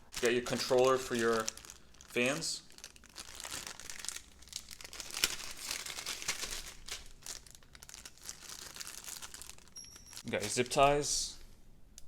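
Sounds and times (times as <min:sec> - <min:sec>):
plastic packaging crinkling: 0:00.0 - 0:11.1.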